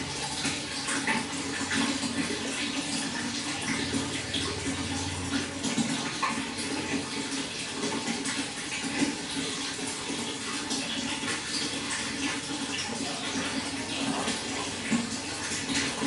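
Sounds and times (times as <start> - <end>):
running water splashing: 0.0 - 16.0.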